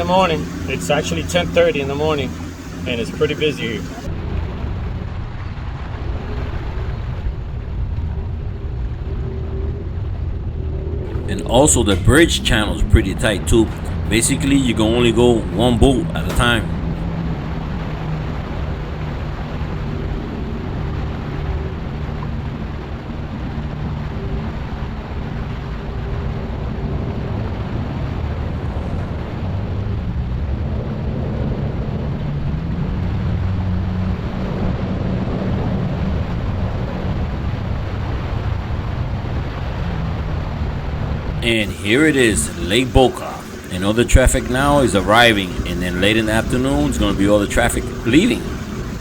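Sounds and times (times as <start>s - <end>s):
rushing water: 0.0s - 9.3s, 11.0s - 49.0s
boat engine running: 0.0s - 49.0s.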